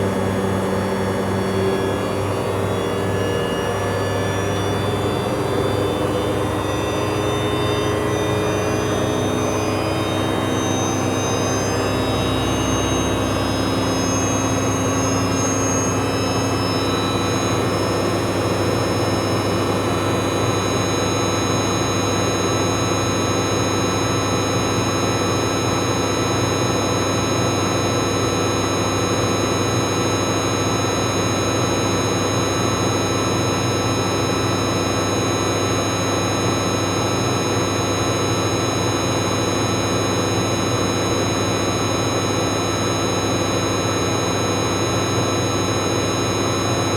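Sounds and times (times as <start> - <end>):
motor high-pitched whine: 0.0 - 46.9.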